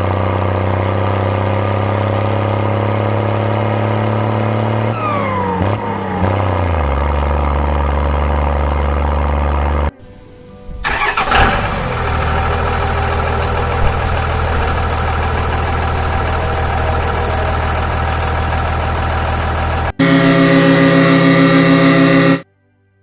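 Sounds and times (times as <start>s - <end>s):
tractor engine starting and running: 0.0s - 22.4s.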